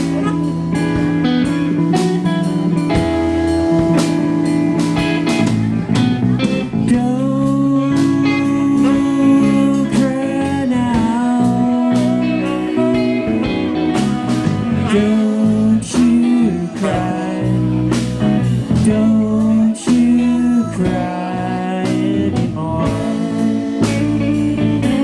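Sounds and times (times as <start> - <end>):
bass guitar: 0.0 - 25.0
drum kit: 0.0 - 25.0
electric guitar lead: 0.0 - 25.0.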